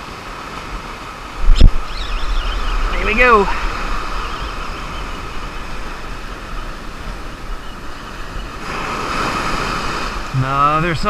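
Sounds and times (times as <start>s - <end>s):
ocean surf on beach: 0.0s - 11.0s
wind on microphone: 0.7s - 10.6s.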